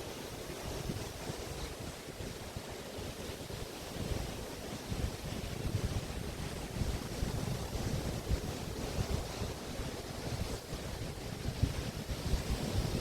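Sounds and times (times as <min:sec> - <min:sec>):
waves washing onto beach: 0:00.0 - 0:13.0
wind rumbling on microphone: 0:00.0 - 0:13.0.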